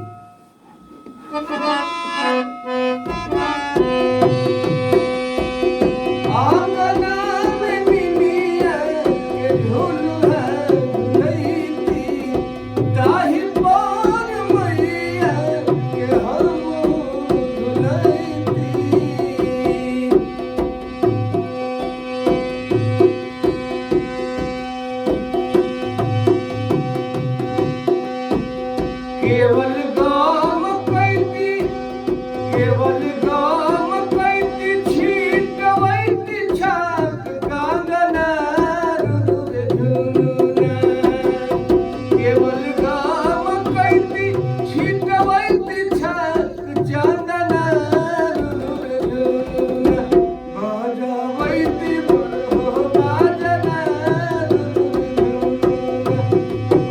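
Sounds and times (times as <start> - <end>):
tabla strokes: 0.0 - 50.6, 51.4 - 56.9.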